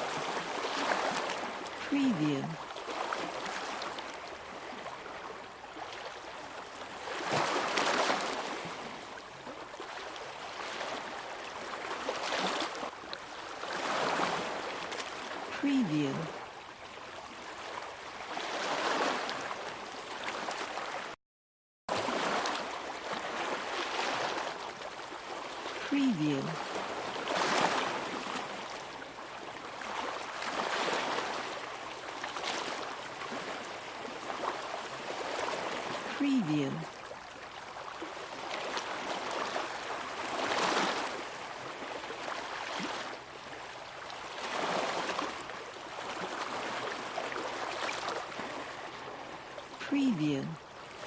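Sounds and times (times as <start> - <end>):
shallow seawater lapping: 0.0 - 21.2, 21.9 - 49.8, 50.5 - 51.0.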